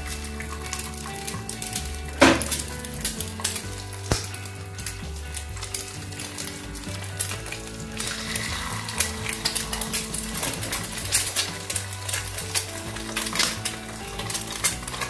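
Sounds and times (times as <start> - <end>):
eggs sizzling in a pan: 0.0 - 15.0
soft background music: 0.0 - 15.0.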